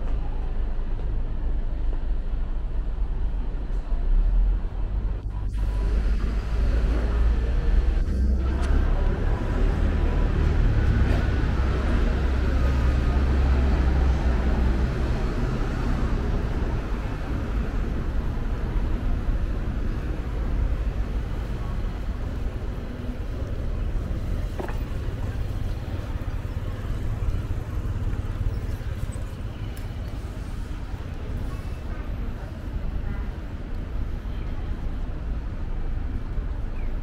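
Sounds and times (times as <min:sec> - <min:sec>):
low traffic rumble: 0:00.0 - 0:37.0.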